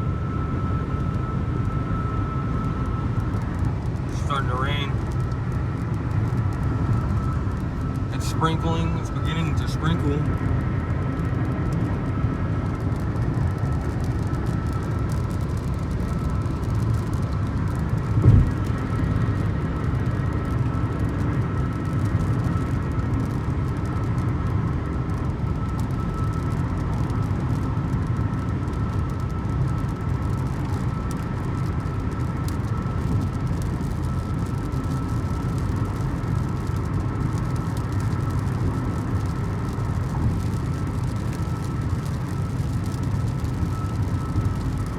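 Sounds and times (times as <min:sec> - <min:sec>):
car road and engine rumble: 0:00.0 - 0:44.9
faint steady whine: 0:00.0 - 0:44.9.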